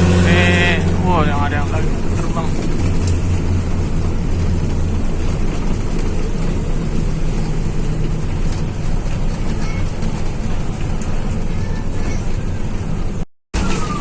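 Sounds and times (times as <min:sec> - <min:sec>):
bus engine drone: 0:00.0 - 0:14.0
road and tyre rumble: 0:00.0 - 0:14.0.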